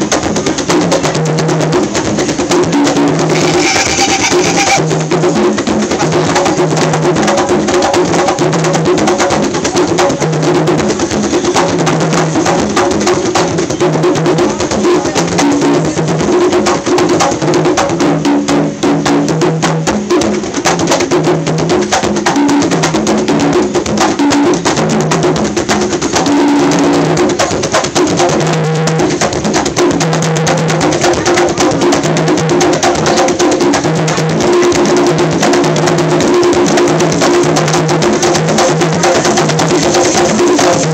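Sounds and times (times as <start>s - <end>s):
hand drums playing a dense rhythm: 0.0s - 40.9s.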